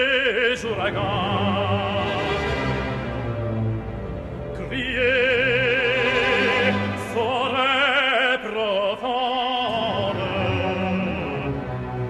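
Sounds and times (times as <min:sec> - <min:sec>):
operatic tenor singing: 0:00.0 - 0:12.0
orchestra: 0:00.0 - 0:12.0.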